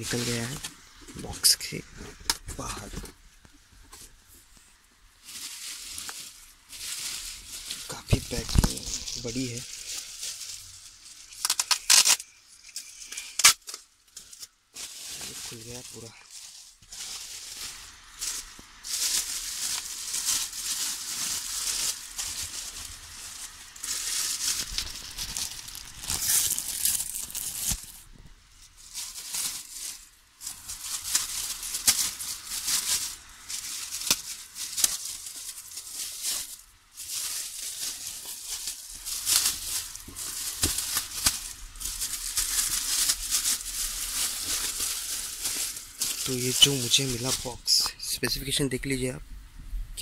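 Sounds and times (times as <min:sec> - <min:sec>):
plastic wrap crinkling: 0:00.0 - 0:48.7.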